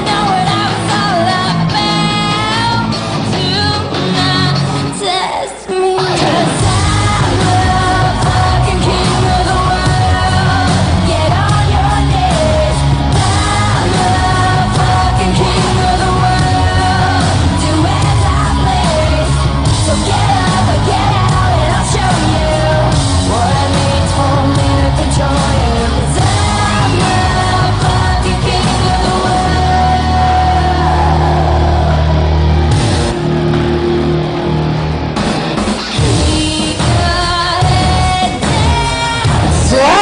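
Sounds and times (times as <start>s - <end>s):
crowd yelling: 0.0s - 36.6s, 37.6s - 40.0s
pop-rock music with vocals: 0.0s - 40.0s.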